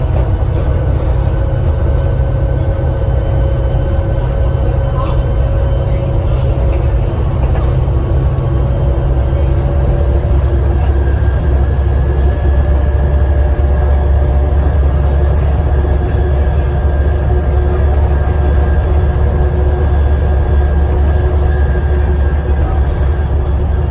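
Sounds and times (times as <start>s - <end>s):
bus diesel engine drone: 0.0s - 23.9s.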